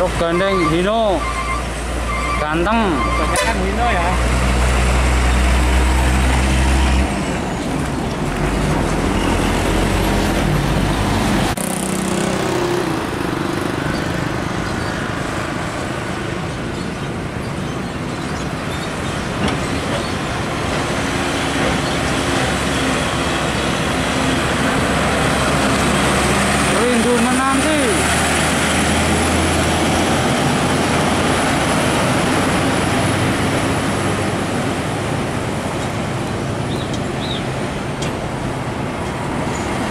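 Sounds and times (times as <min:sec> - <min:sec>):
diesel truck engine passing: 0:00.0 - 0:17.4, 0:18.0 - 0:39.9
road traffic noise: 0:00.0 - 0:39.9
truck with trailer pulling along: 0:00.0 - 0:39.9.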